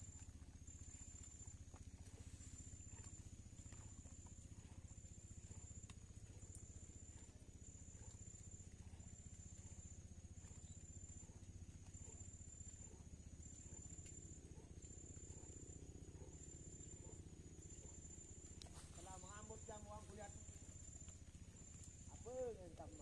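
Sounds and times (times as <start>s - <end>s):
faint low rumble: 0.0s - 23.0s
insect calling in high pulses: 0.0s - 23.0s.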